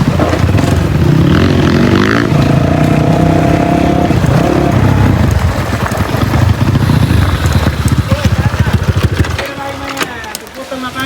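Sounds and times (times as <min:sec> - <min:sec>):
dirt bike engines running: 0:00.0 - 0:11.0.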